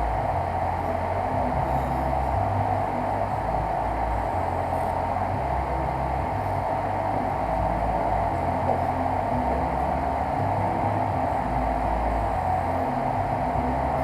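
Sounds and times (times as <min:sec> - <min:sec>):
fan whirring: 0:00.0 - 0:14.0
stepper motors humming: 0:00.0 - 0:14.0.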